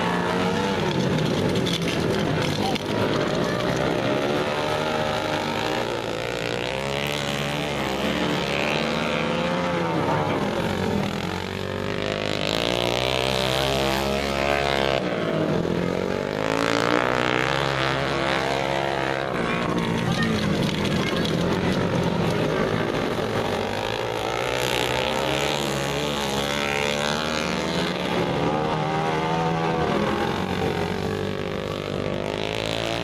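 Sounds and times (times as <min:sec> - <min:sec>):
motorcycle engine revving hard: 0:00.0 - 0:33.0.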